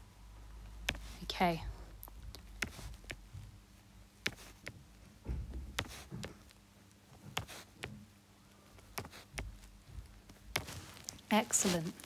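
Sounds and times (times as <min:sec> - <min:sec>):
soft low thumps: 0:00.8 - 0:08.2, 0:08.9 - 0:11.8.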